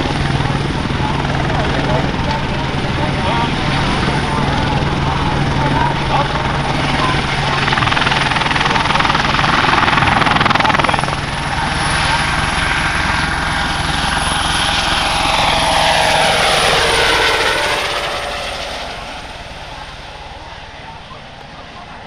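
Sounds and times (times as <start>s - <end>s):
helicopter rotor beat: 0.0s - 22.0s
helicopter turbine whining: 0.0s - 22.0s.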